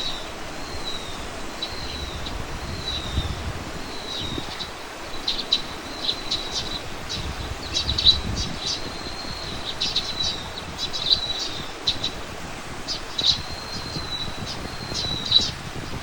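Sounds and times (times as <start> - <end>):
small birds chirping: 0.0 - 16.0
wind rumble: 0.0 - 16.0.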